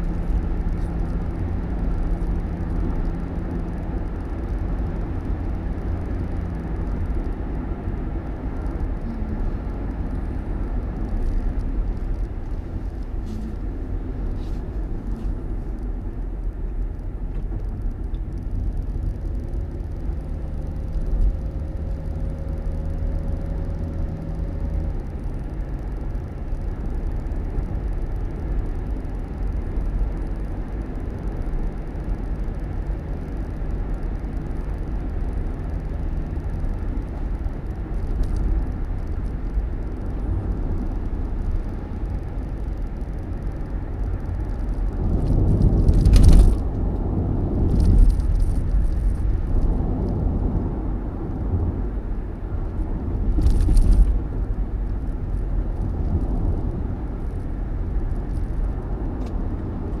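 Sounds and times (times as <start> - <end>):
road vehicle rumble: 0.0 - 60.0.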